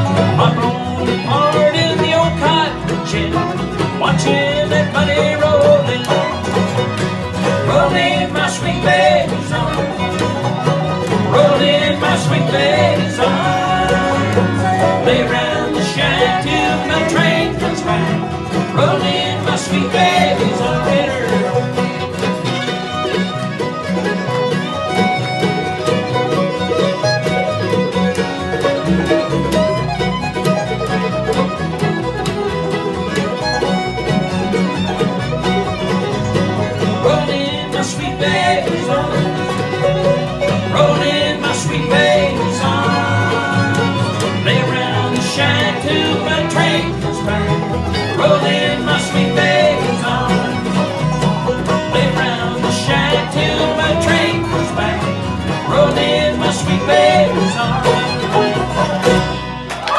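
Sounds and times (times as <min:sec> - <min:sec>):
banjo: 0:00.0 - 0:59.9
fiddle: 0:00.0 - 0:59.9
strummed acoustic guitar: 0:00.0 - 0:59.9
upright bass: 0:00.0 - 0:59.9.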